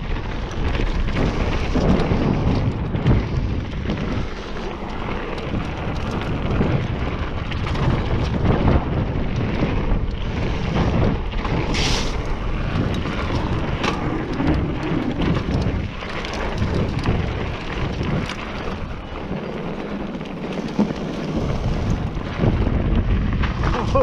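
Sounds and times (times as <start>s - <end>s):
bike clattering over bumps: 0.0s - 24.0s
tyres rolling over dirt: 0.0s - 24.0s
wind buffeting microphone: 0.0s - 24.0s.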